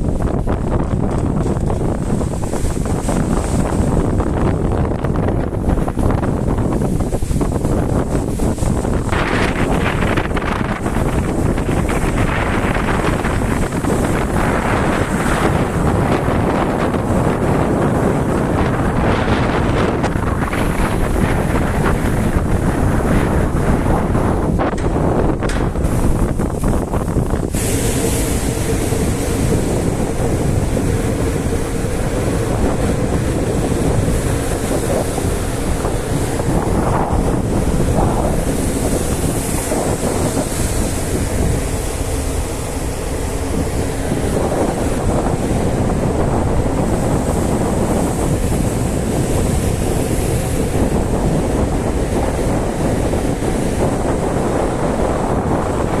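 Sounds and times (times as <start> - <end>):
rough seas washing against ship: 0.0 - 56.0
strong wind buffeting microphone: 0.0 - 56.0.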